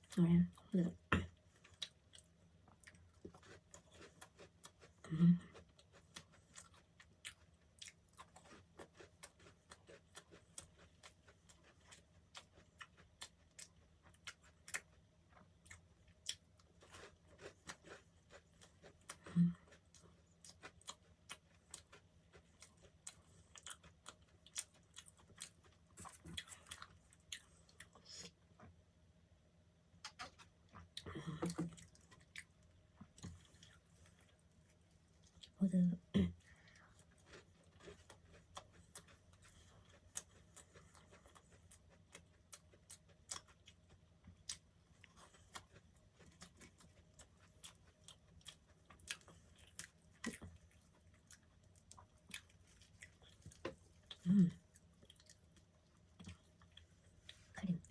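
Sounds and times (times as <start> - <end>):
chewing soft bread: 0.0 - 57.9.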